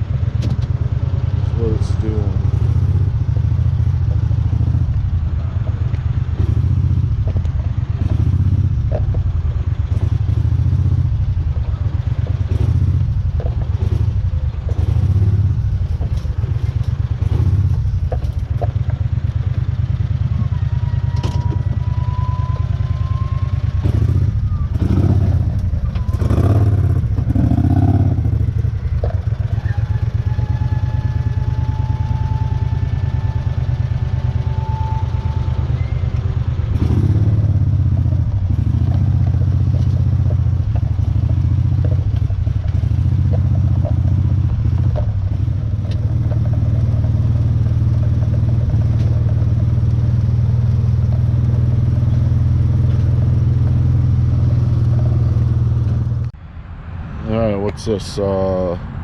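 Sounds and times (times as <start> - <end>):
clatter: 0.0 - 56.4
utility vehicle engine running: 0.0 - 56.5.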